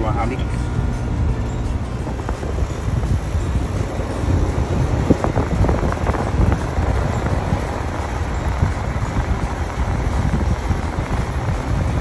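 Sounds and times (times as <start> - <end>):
air conditioner unit rumbling: 0.0 - 12.0.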